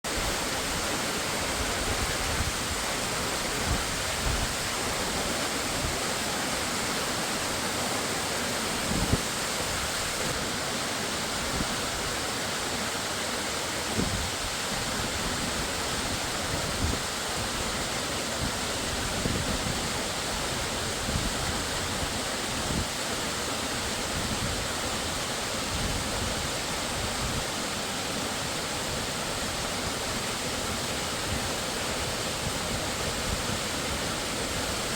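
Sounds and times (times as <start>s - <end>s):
waterfall roar: 0.0s - 34.9s.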